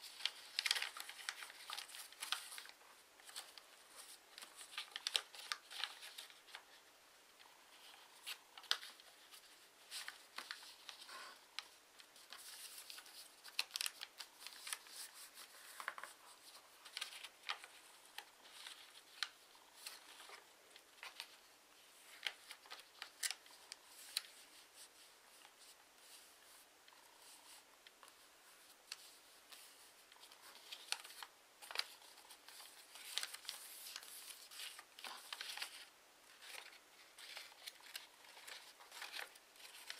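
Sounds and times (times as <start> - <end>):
paper rustling and crinkling: 0.0 - 6.8, 7.4 - 39.9.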